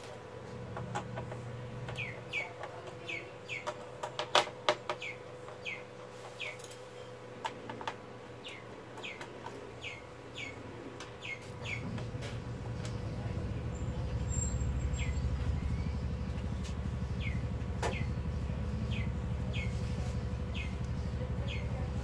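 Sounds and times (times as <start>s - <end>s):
bird chirping: 1.8s - 3.8s, 4.9s - 7.2s, 8.4s - 22.0s.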